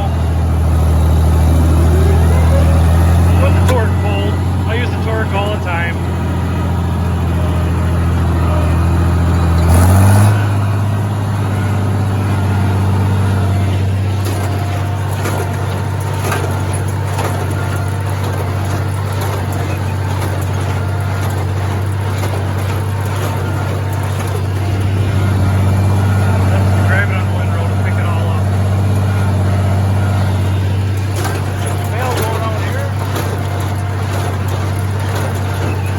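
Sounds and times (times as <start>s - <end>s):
tractor engine under load: 0.0s - 35.9s.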